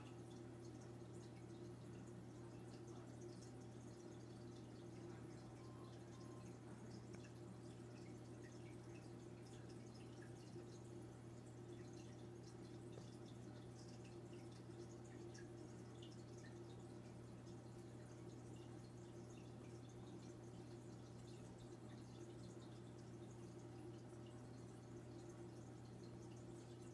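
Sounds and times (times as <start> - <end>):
aquarium equipment hum: 0.0 - 26.9
water drips and bubbles: 0.0 - 26.9.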